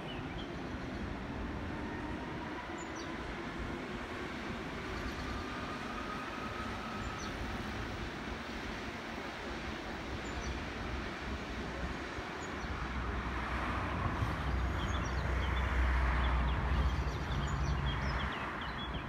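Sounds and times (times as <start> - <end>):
rail traffic rumble: 0.0 - 19.0.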